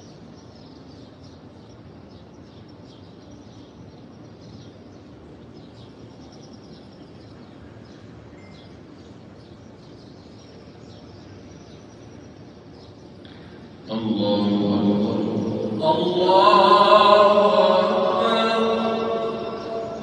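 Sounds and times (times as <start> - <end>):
small birds chirping: 0.0 - 16.3
low background hum: 0.0 - 20.0.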